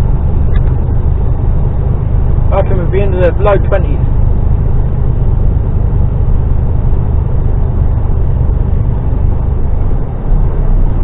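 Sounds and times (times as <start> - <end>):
truck diesel engine labouring uphill: 0.0 - 11.0.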